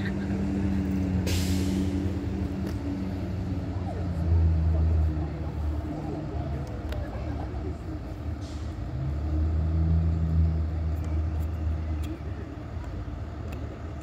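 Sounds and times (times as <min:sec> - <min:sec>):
diesel engines rumbling: 0:00.0 - 0:14.0.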